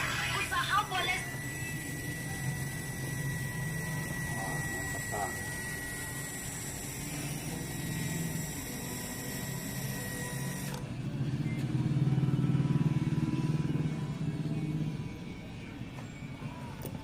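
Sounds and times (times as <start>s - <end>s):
engine running with fast pulse: 0.0s - 15.6s.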